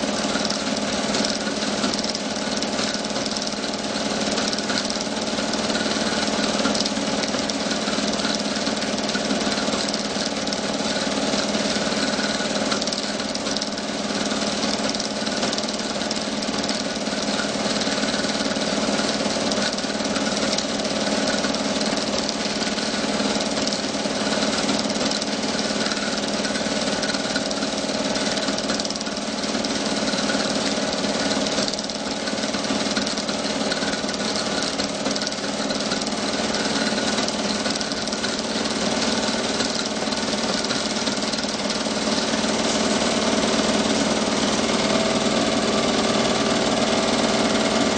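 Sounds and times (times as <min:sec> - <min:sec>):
film projector motor hum: 0:00.0 - 0:47.9.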